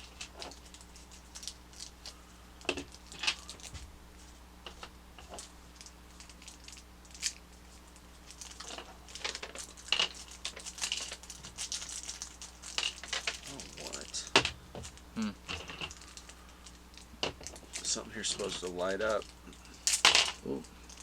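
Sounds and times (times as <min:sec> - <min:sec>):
plastic packaging crinkling: 0:00.0 - 0:03.8, 0:04.7 - 0:21.0.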